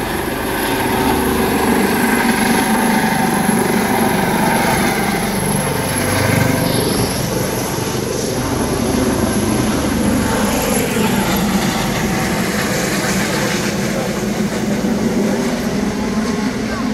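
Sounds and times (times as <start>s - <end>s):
helicopter turbine and rotor: 0.0s - 16.9s.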